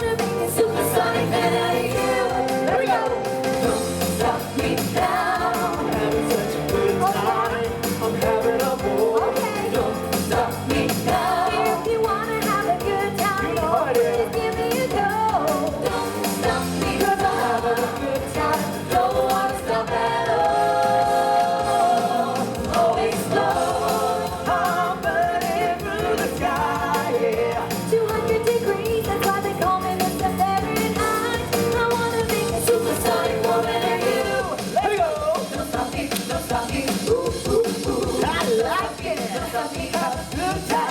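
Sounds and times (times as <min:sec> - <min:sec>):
loud band music: 0:00.0 - 0:40.9
people singing pop song: 0:00.0 - 0:40.9.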